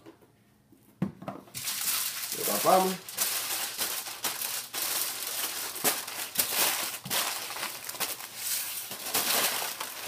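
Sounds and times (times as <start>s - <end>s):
aluminium foil crinkling: 1.6s - 10.0s.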